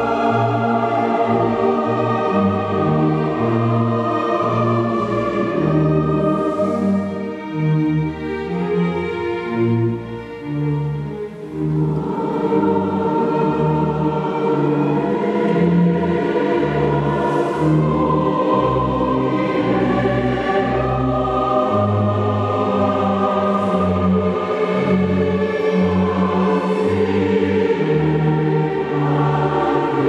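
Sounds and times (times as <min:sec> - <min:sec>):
choir singing: 0:00.0 - 0:30.0
symphony orchestra: 0:00.0 - 0:30.0.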